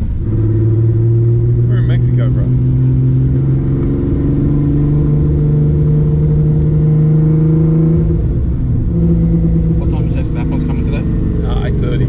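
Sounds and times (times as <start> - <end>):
turbocharged car engine in cabin: 0.0 - 12.0.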